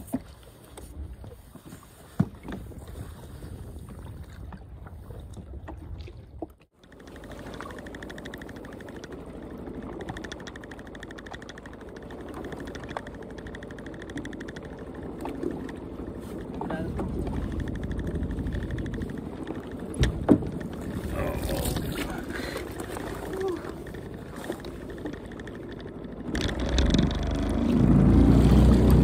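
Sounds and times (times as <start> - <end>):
small boat engine noise: 0.0 - 29.0.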